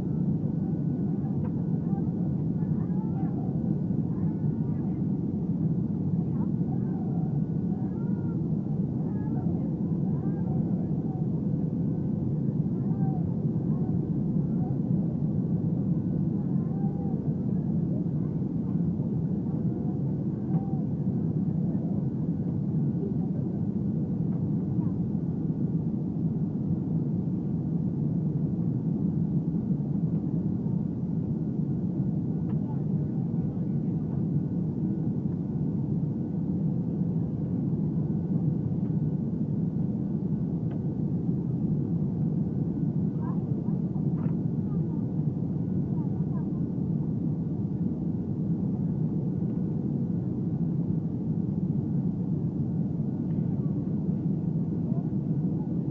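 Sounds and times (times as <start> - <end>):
airplane cabin engine rumble: 0.0 - 55.9
faint steady hum: 0.0 - 55.9.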